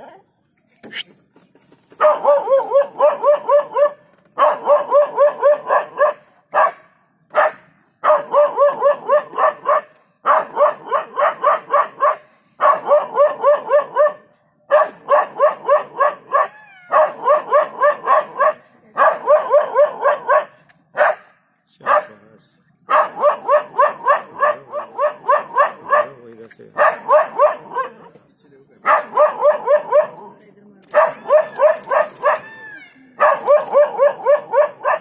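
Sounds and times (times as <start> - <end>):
dog barking in alarm: 2.0 - 22.2, 22.9 - 26.2, 26.8 - 28.1, 28.8 - 30.2, 30.9 - 35.0.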